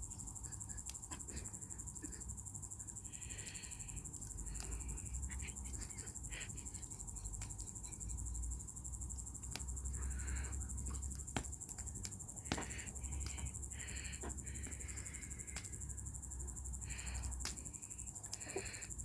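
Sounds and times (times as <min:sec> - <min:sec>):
crickets chirping: 0:00.0 - 0:19.0
wood fire crackling: 0:03.0 - 0:19.0.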